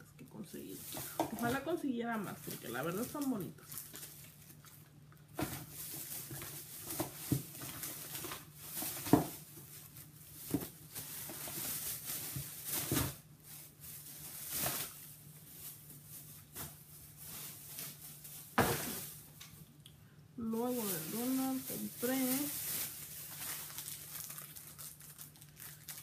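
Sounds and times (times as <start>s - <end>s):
faint steady hum: 0.0s - 26.0s
plastic bag rustling: 0.4s - 19.6s, 20.4s - 26.0s.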